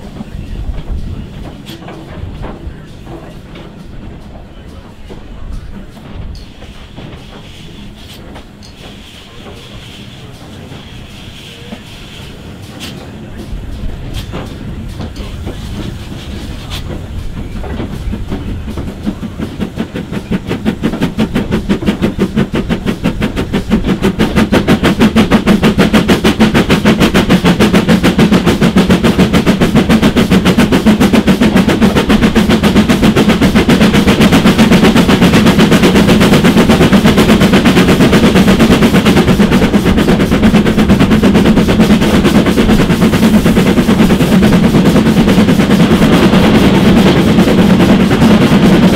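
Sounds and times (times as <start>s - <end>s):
steam locomotive exhaust beats: 0.0s - 48.9s.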